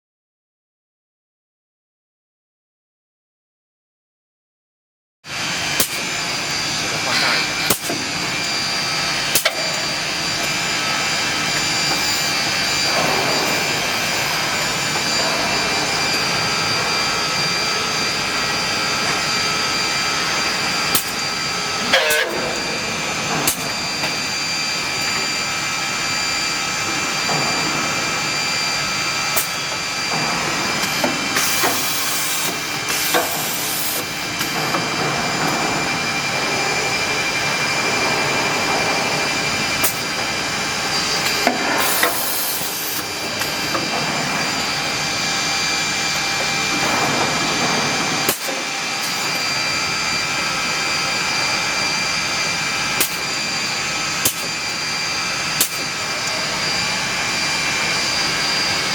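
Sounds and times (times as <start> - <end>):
drilling machine whine: 5.3 - 58.9.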